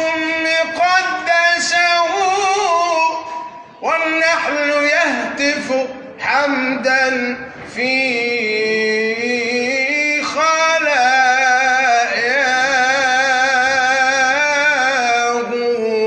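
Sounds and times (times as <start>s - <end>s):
man chanting devotional melody: 0.0s - 16.0s.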